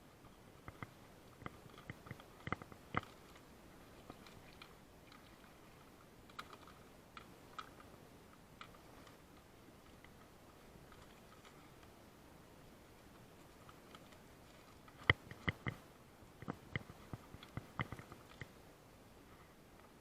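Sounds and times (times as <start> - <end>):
objects being handled clicking: 0.6 - 12.0, 13.1 - 15.8, 16.4 - 18.6.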